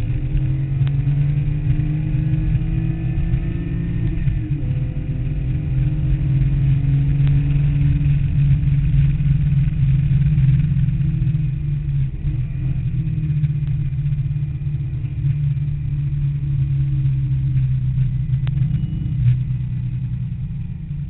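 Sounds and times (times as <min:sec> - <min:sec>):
car engine running hard: 0:00.0 - 0:21.0.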